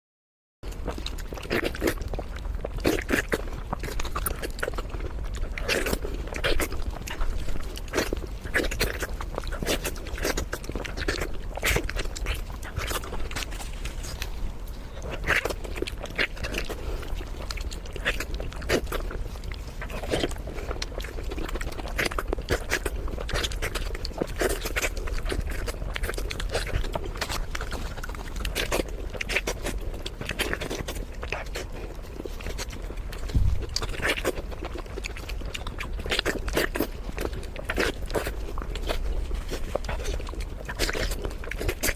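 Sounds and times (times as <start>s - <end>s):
person chewing food: 0.6s - 41.9s.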